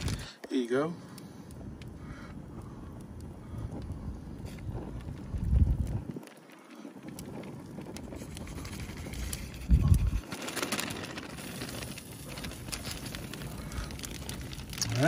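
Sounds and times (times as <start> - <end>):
wind buffeting microphone: 0.0 - 0.3, 1.5 - 15.0
vegetables crackling on grill: 0.0 - 15.0.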